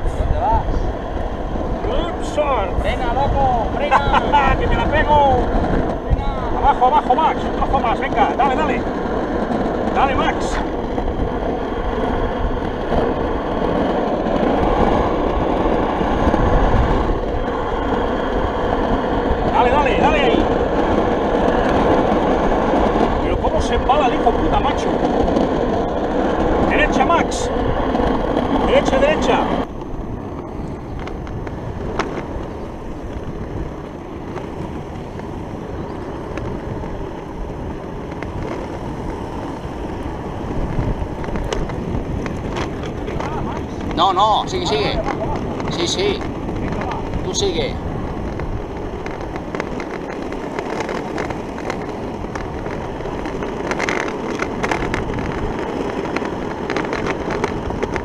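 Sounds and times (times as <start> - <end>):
board wheels rolling on asphalt: 0.0 - 58.0
wind buffeting microphone: 0.0 - 58.0.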